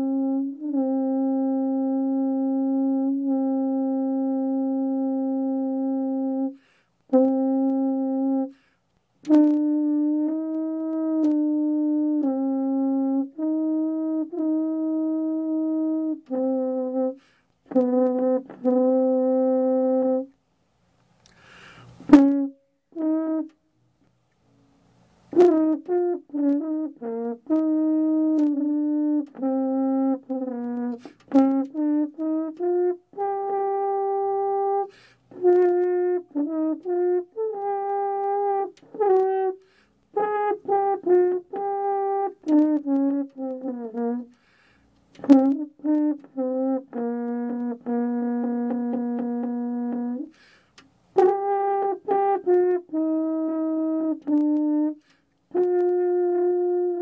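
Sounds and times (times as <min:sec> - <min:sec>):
french horn playing: 0:00.0 - 0:20.4, 0:21.3 - 0:57.0.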